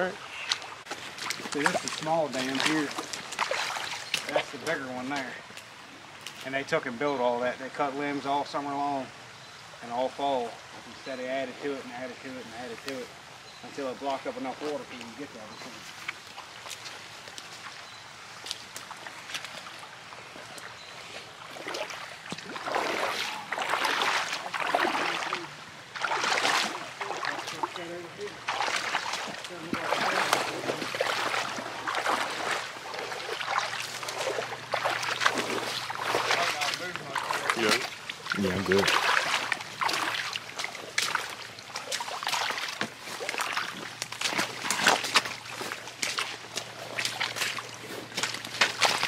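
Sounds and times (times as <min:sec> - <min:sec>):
water sloshing from wading steps: 0:00.0 - 0:06.6, 0:10.6 - 0:49.0
boots squelching through mud: 0:00.4 - 0:06.5, 0:14.9 - 0:49.0.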